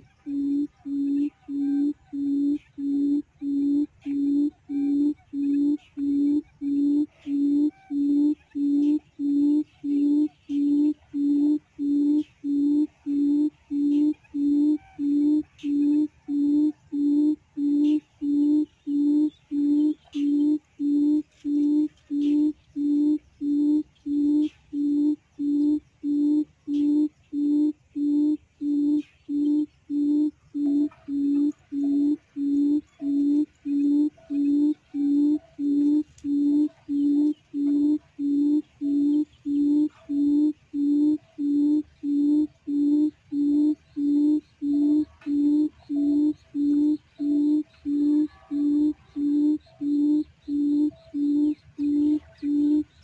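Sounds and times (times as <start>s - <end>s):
quail call hooting: 0.0s - 53.0s.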